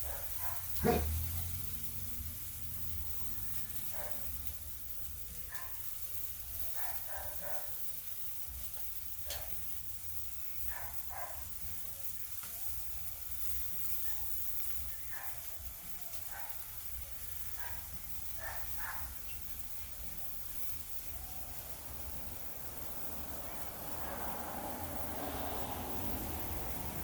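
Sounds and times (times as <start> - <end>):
fat sizzling on charcoal grill: 0.0 - 27.0.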